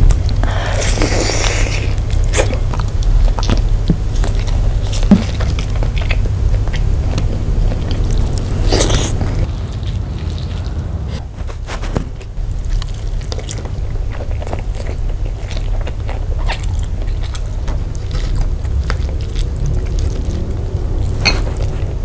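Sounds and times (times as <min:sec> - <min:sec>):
low rumble: 0:00.0 - 0:15.0, 0:16.9 - 0:22.0
close chewing: 0:00.0 - 0:22.0.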